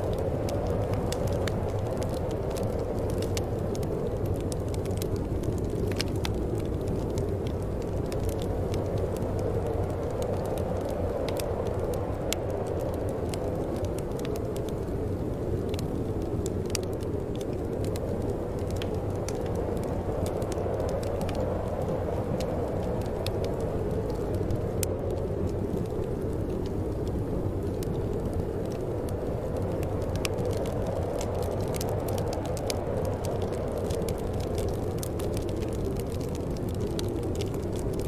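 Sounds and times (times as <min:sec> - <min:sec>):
fire crackles and pops: 0:00.0 - 0:38.0
wood fire burning: 0:00.0 - 0:38.0.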